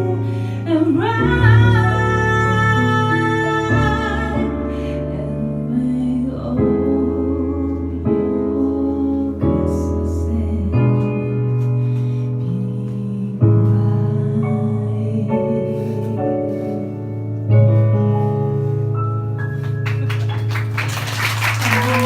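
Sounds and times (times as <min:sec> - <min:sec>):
piano or keyboard: 0:00.0 - 0:22.0.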